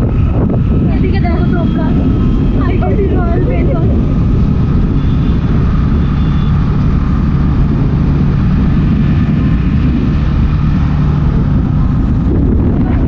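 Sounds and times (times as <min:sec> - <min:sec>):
motorcycle engine running: 0:00.0 - 0:13.0
wind buffeting on microphone: 0:00.0 - 0:13.0.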